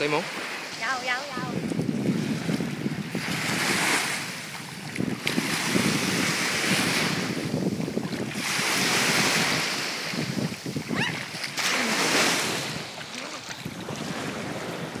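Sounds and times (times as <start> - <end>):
waves washing onto sand: 0.0 - 15.0
wind buffeting microphone: 0.0 - 15.0.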